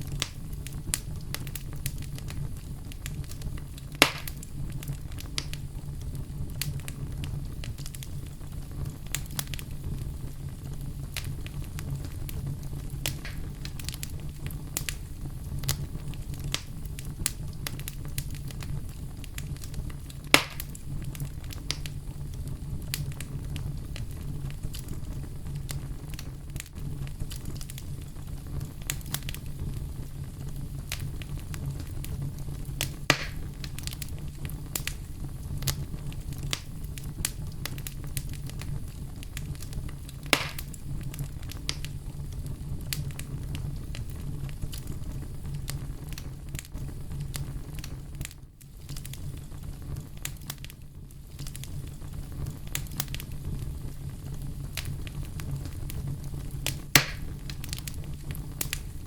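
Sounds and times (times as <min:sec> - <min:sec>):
burning wood popping: 0:00.0 - 0:59.0
campfire crackling: 0:00.0 - 0:59.0.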